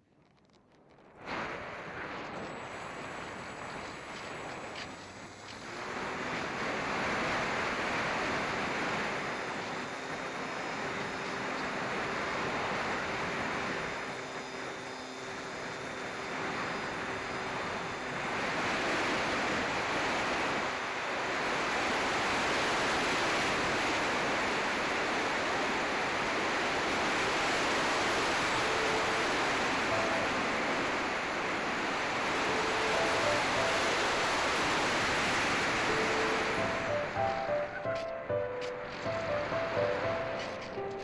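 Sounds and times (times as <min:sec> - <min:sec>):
wind rushing over microphone: 0:00.7 - 0:38.0
faint steady tones: 0:01.0 - 0:41.0.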